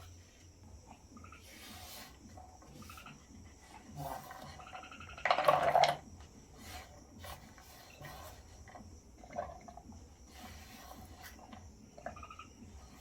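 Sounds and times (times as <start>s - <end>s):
faint high chirping: 0.0s - 5.4s, 6.0s - 13.0s.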